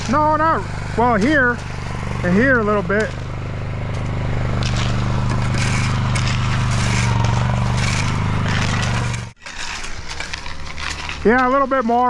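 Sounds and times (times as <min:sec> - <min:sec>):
gravel scraping: 0:00.0 - 0:12.0
small gas engine running: 0:00.0 - 0:12.0.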